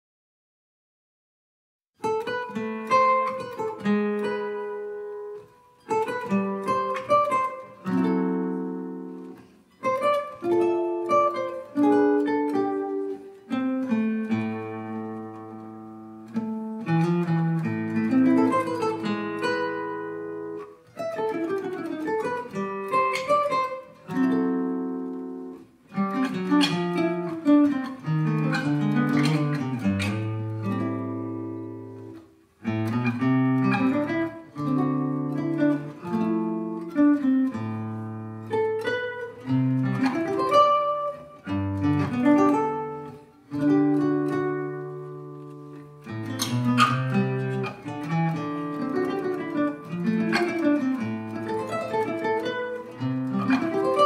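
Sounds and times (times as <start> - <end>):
acoustic guitar playing: 2.0 - 54.0.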